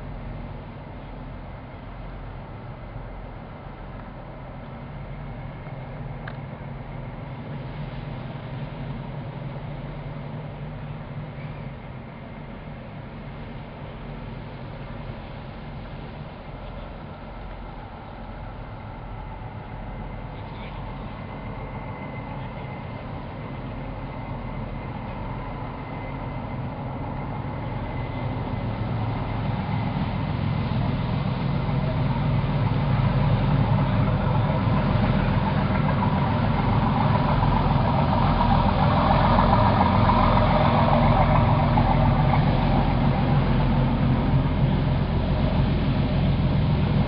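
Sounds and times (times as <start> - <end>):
boat diesel engines running: 0.0 - 47.0
water churning from jets: 0.0 - 47.0.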